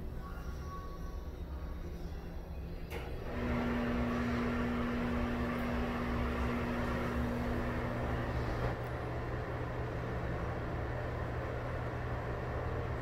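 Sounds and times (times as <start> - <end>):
exhaust fan running: 2.4 - 13.0.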